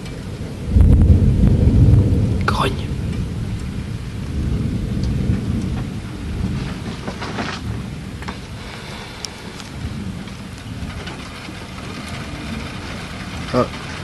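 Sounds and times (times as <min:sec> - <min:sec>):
rain falling: 0:00.0 - 0:14.0
raindrops ticking: 0:00.0 - 0:14.0
thunder rumbling: 0:00.0 - 0:14.0.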